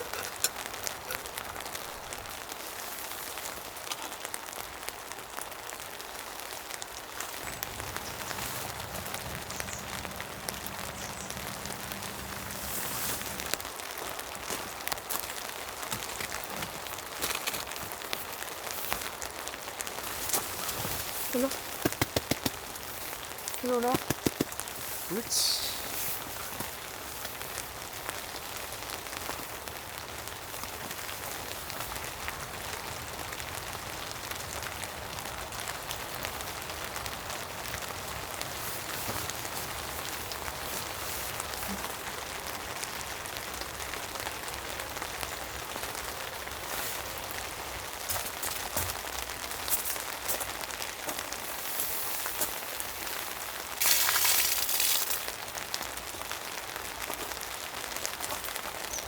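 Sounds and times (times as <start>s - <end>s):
raindrop ticks: 0.0s - 2.7s, 3.3s - 51.5s, 53.8s - 59.0s
steady rain hiss: 0.0s - 59.0s.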